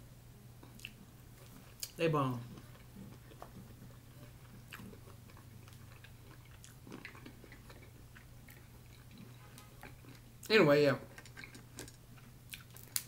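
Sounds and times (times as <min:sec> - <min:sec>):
steady low hum: 0:00.0 - 0:13.0
person chewing: 0:00.6 - 0:10.5, 0:11.1 - 0:13.0.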